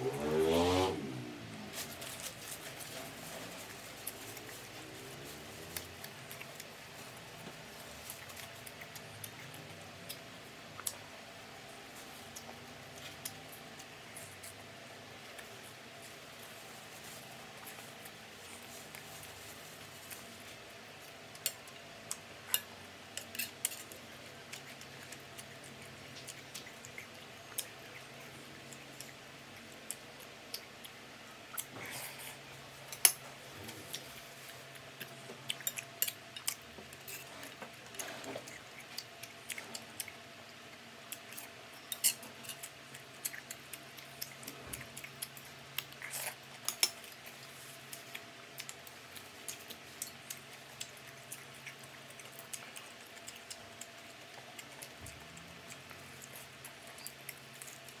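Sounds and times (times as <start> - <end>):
person chewing crispy food: 0.1 - 58.0.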